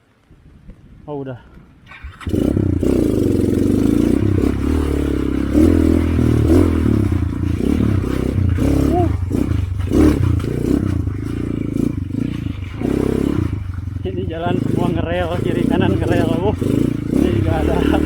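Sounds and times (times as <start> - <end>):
motorcycle engine revving: 1.9 - 18.0.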